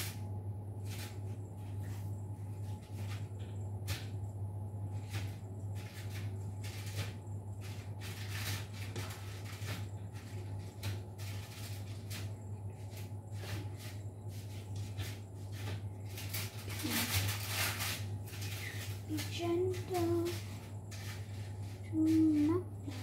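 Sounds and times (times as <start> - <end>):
dough being handled: 0.0 - 23.0
steady low hum: 0.0 - 23.0.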